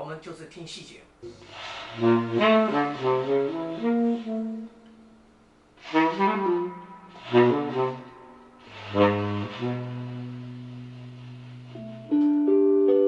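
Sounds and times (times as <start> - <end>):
saxophone playing: 1.3 - 5.2, 5.8 - 12.6.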